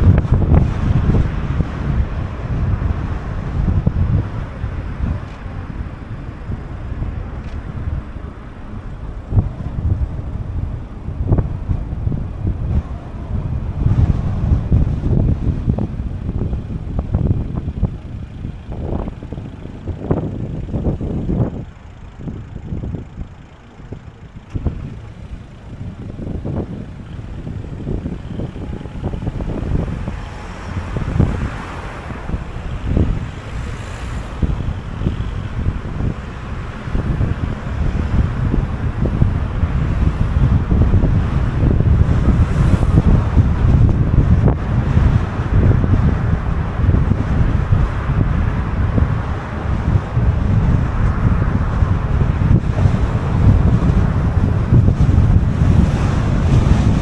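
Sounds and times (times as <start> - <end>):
road and traffic rumble: 0.0 - 57.0
wind buffeting the microphone: 0.0 - 57.0.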